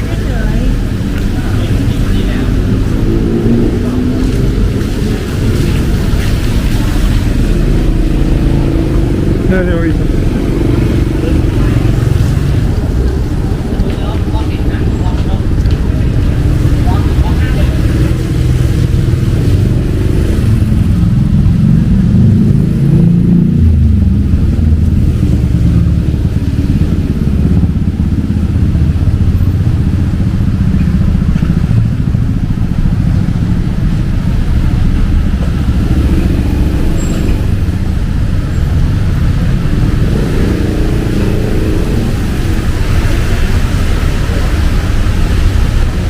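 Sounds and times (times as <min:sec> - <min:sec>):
cars passing: 0:00.0 - 0:46.0
motorcycles passing: 0:00.0 - 0:46.0.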